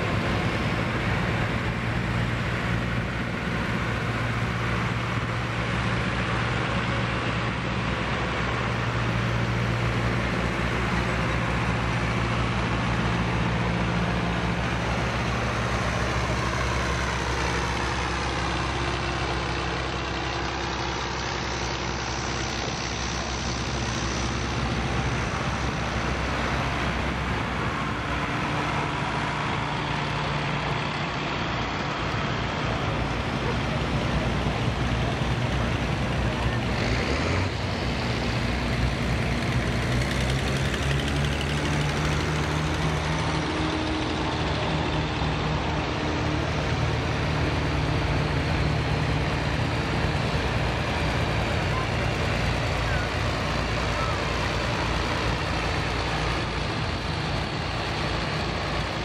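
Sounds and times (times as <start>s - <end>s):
tractor engines driving past: 0.0s - 59.0s.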